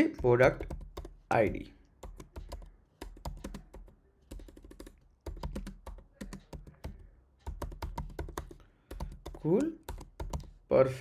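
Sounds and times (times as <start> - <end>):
keyboard typing: 0.0 - 10.7.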